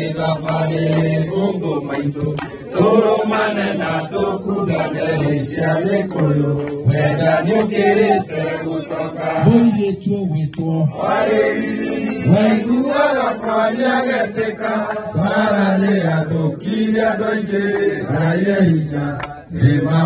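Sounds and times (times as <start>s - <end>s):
man singing through loudspeakers: 0.0s - 20.0s.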